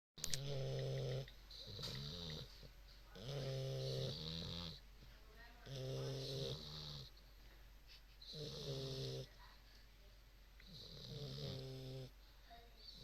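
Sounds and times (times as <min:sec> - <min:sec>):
puppies snoring: 0:00.2 - 0:09.4, 0:10.6 - 0:13.0.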